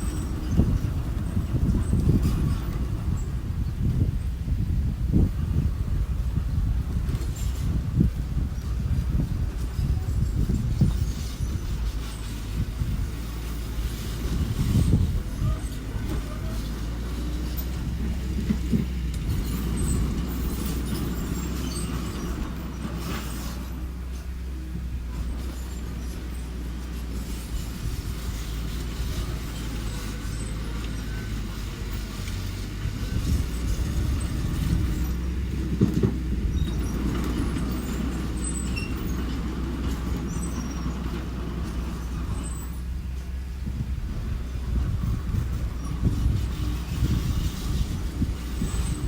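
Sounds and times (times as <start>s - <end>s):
machinery clanks: 0.0s - 49.0s
small bulldozer engine running: 0.0s - 49.0s.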